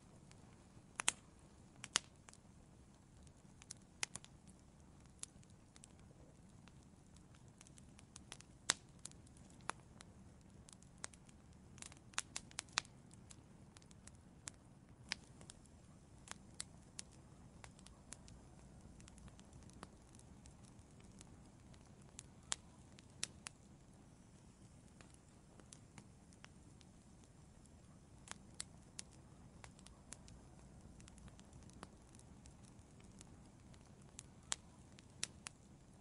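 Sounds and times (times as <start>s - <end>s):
faint low rumble: 0.0s - 36.0s
wood fire crackling: 0.0s - 36.0s.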